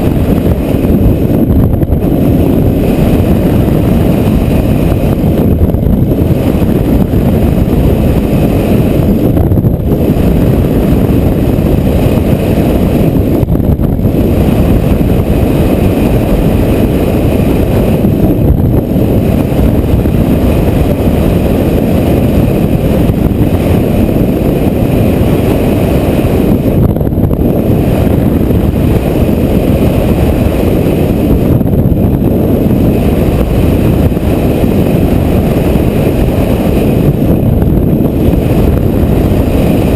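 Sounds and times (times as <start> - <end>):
strong wind blowing on microphone: 0.0 - 39.9.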